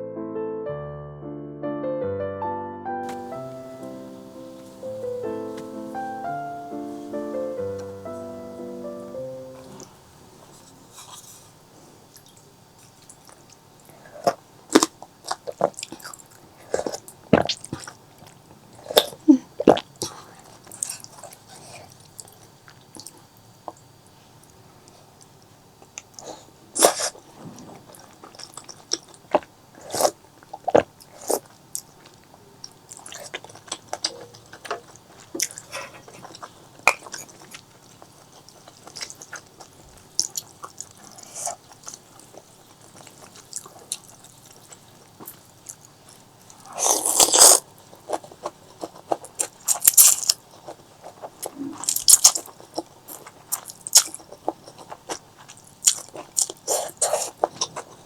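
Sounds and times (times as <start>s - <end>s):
crunching and chewing: 3.0s - 9.0s, 9.6s - 58.0s.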